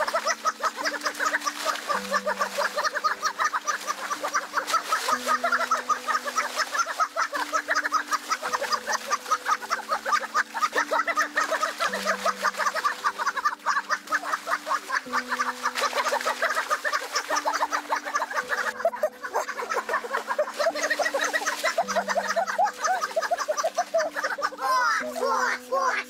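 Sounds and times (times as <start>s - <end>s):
fast clucking-like patter: 0.0s - 25.6s.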